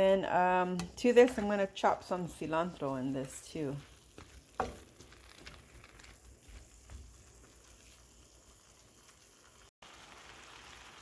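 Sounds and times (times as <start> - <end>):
faint sizzle in a pan: 0.0 - 11.0.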